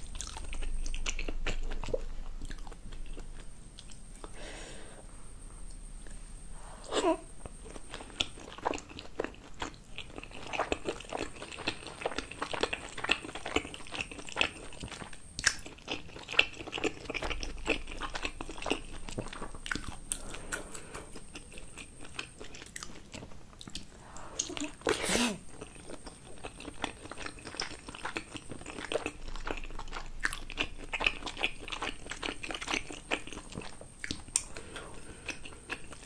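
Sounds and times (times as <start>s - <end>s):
chewing with mouth clicks: 0.0s - 4.4s, 7.4s - 36.0s.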